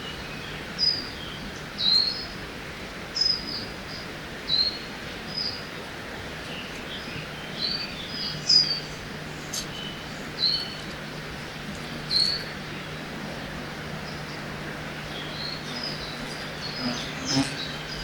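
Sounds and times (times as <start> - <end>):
low steady hum: 0.0 - 18.0
river rushing: 0.0 - 18.0
songbirds chirping: 0.0 - 18.0.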